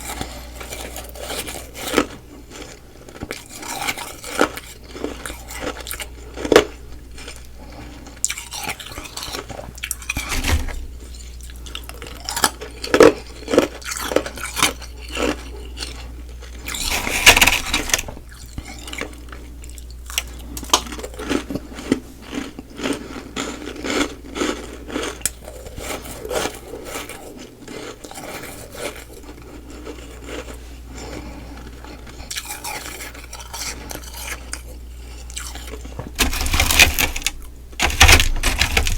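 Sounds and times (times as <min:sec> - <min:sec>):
ice crunching and chewing: 0:00.0 - 0:38.9.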